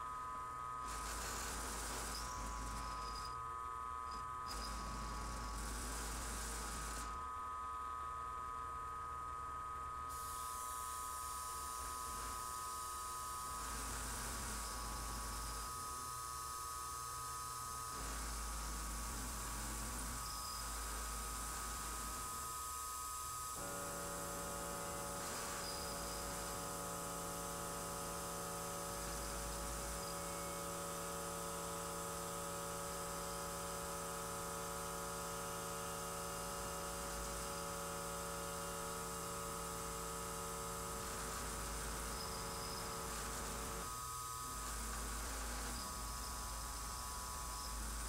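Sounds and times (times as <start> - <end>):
milling machine spindle motor whine: 0.1 - 48.0.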